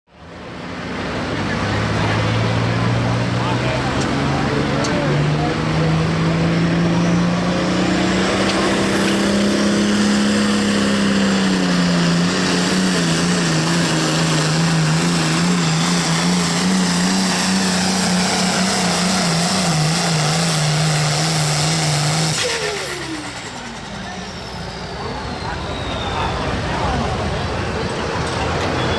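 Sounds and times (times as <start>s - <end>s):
diesel engine running flat out: 0.1s - 28.9s
engine winding down: 1.4s - 28.8s.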